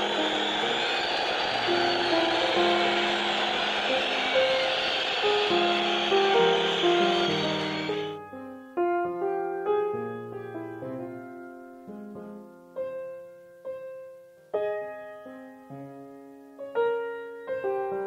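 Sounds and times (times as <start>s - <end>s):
slow solo piano piece: 0.0s - 18.0s.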